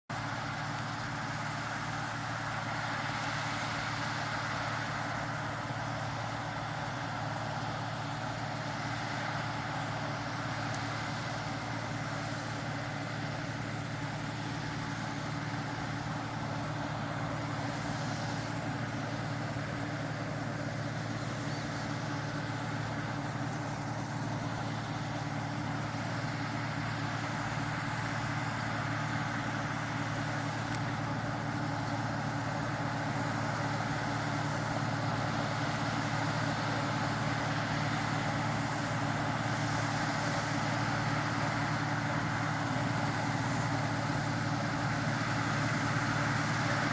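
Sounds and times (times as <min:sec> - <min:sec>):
combine harvester running: 0:00.1 - 0:46.9.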